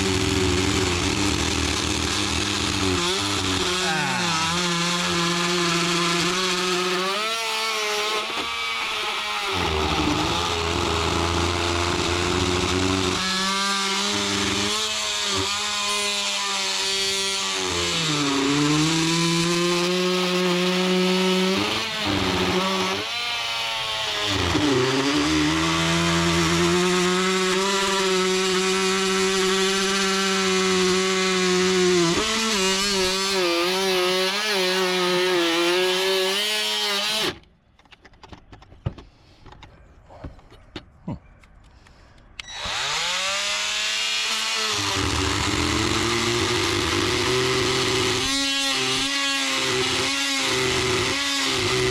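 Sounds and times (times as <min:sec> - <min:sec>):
oscillating multi-tool buzzing: 0:00.0 - 0:37.4, 0:42.4 - 0:51.9.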